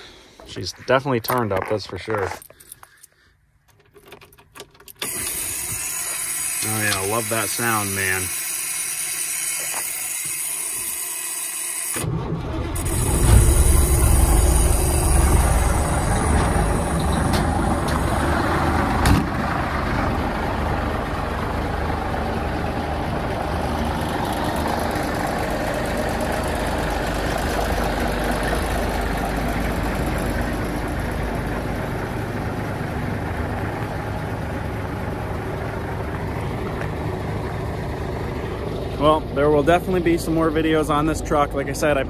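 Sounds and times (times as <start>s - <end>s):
diesel truck engine idling: 5.1s - 9.3s, 12.1s - 42.0s.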